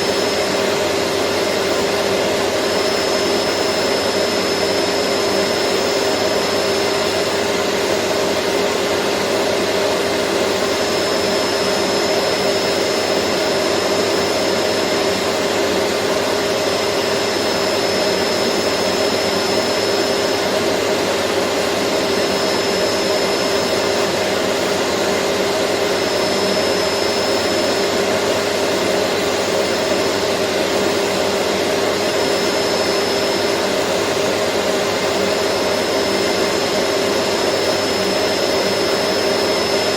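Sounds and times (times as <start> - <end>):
faint high whine: 0.0 - 39.9
vacuum cleaner motor running: 0.0 - 39.9.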